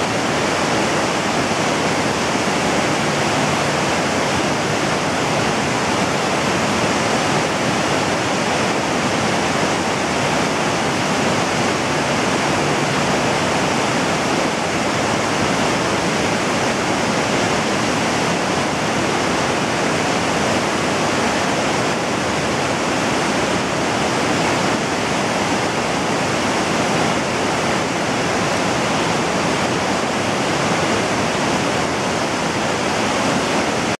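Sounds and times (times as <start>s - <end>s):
river whitewater rushing: 0.0s - 34.0s.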